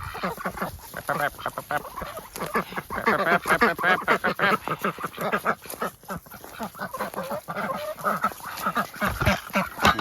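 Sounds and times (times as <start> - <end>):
ducks quacking: 0.0 - 10.0.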